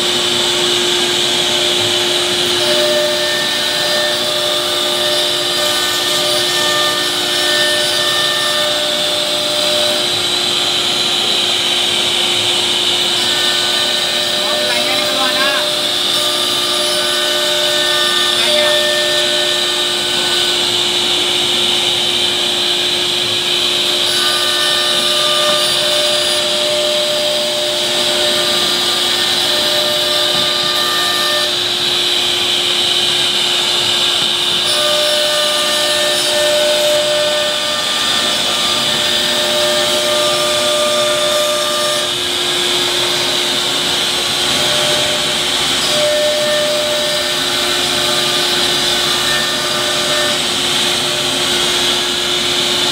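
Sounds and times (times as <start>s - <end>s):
cnc router spindle whine: 0.0s - 52.9s
dust extraction hum: 0.0s - 52.9s.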